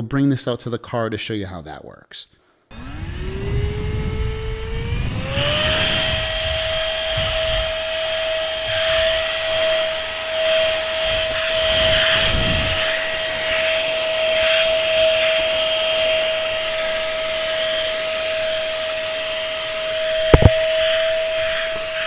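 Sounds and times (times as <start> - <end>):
air rushing through vacuum nozzle: 2.7 - 22.0
vacuum motor whine: 2.7 - 22.0.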